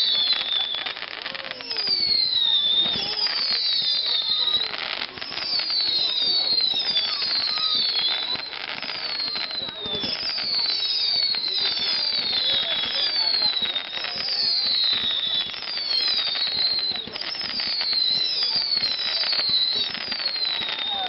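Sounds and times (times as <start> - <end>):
fireworks crackling: 0.0 - 21.0
fireworks whistling: 0.0 - 21.0.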